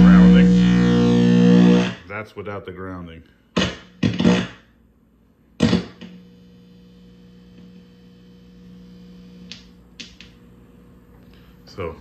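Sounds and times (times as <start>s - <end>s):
electrical buzz from amplifier: 0.0s - 12.0s.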